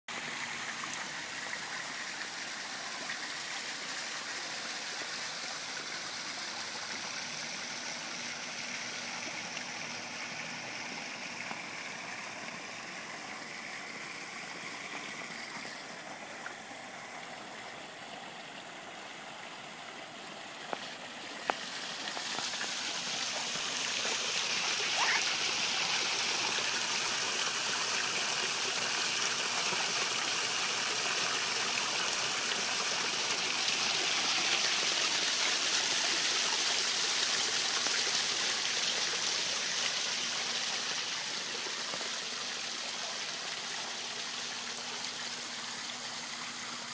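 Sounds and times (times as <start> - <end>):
waterfall splashing into pond: 0.1 - 46.9.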